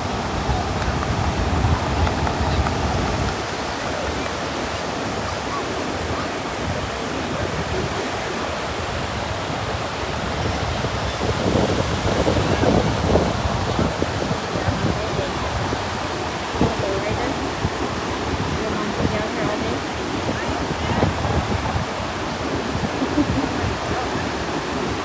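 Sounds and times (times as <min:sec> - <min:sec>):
ocean surf: 0:00.0 - 0:25.0
wind buffeting microphone: 0:00.0 - 0:25.0.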